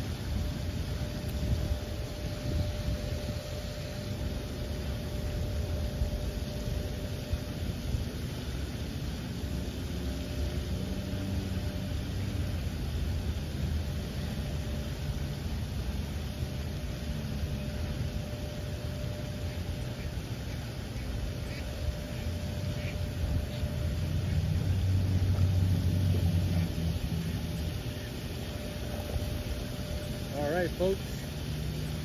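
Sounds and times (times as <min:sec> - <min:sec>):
even hiss: 0:00.0 - 0:32.0
faint steady hum: 0:00.0 - 0:32.0
low fluttering rumble: 0:00.0 - 0:32.0.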